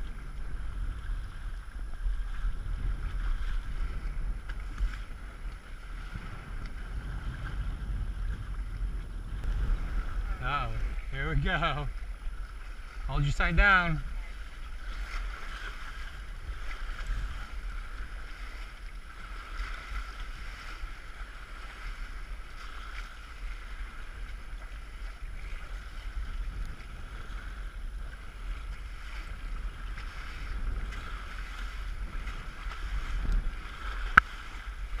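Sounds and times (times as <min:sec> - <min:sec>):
water rushing along hull: 0:00.0 - 0:35.0
wind buffeting microphone: 0:00.0 - 0:35.0.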